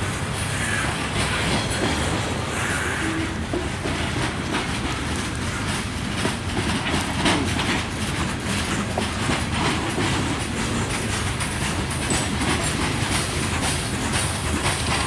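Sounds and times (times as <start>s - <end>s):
steel wheels rumbling on rails: 0.0s - 15.0s
wheels clicking over rail joints: 0.0s - 15.0s.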